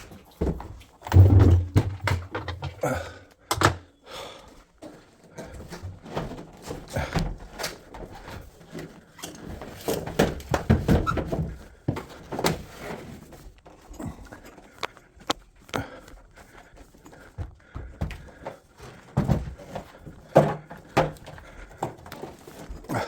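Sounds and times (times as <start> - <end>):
washing machine parts clattering: 0.0 - 3.9, 5.2 - 15.4, 17.2 - 23.0.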